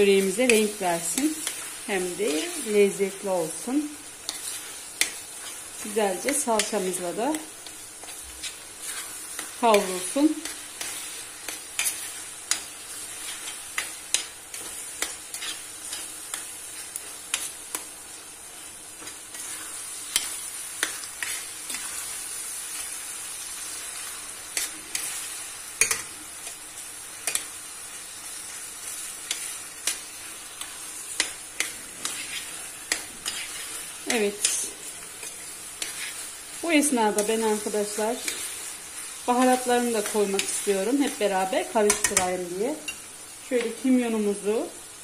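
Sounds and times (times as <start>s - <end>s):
metal spoon scraping a pan: 0.0s - 17.9s, 18.6s - 23.0s, 23.7s - 26.6s, 27.2s - 27.6s, 28.3s - 43.8s
meat and onion sizzling in a pan: 0.0s - 45.0s.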